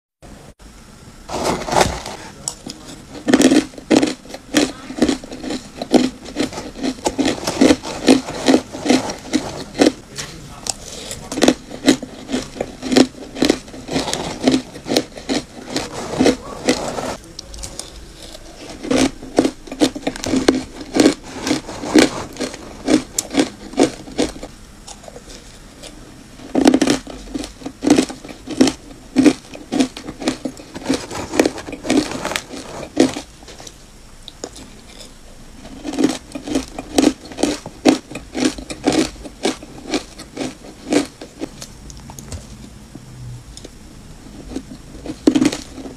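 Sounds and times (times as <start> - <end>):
ice being chewed crunching: 1.3 - 10.0, 10.7 - 42.4, 43.6 - 45.9.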